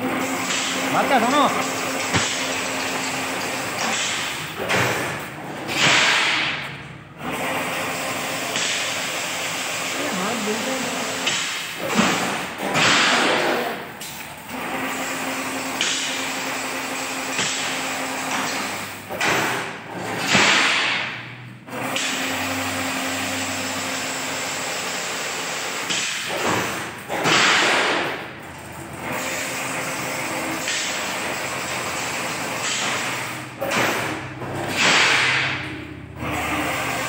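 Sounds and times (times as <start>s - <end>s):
machine mechanical hum: 0.0s - 37.0s.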